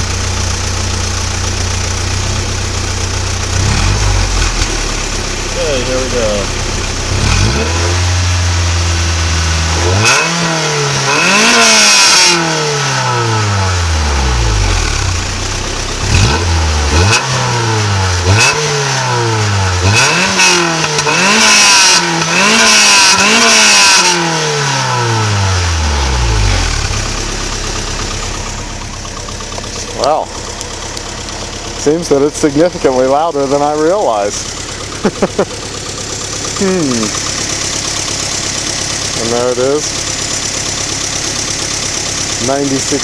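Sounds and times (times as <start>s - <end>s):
car engine idling: 0.0s - 43.0s
car engine revving: 0.0s - 43.0s.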